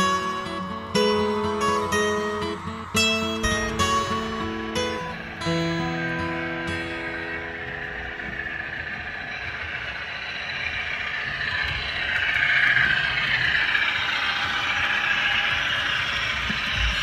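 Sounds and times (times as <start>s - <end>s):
model train motor whir: 0.0s - 17.0s
wheels clattering on track: 0.0s - 17.0s.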